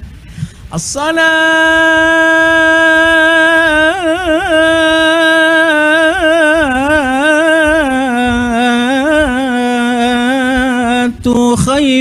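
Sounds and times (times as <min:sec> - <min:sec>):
man singing call to prayer: 0:00.6 - 0:12.0.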